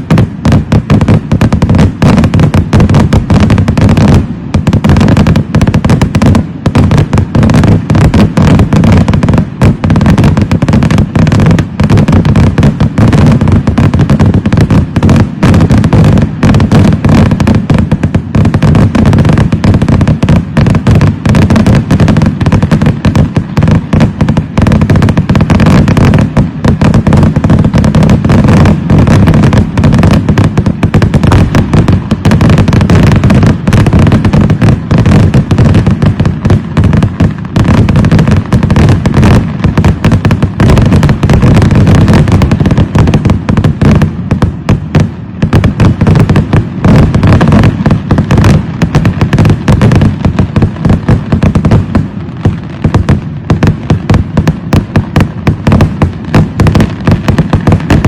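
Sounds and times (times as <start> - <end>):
fireworks explosions: 0.0 - 58.0.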